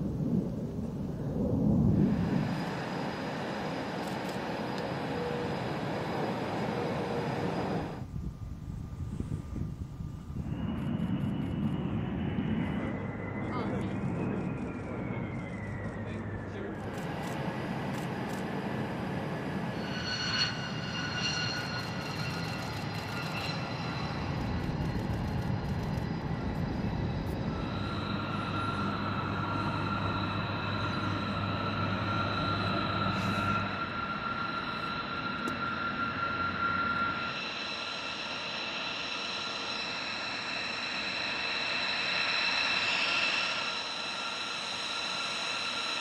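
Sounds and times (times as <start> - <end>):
aircraft engine running: 0.0 - 46.0
high engine whine: 0.0 - 46.0.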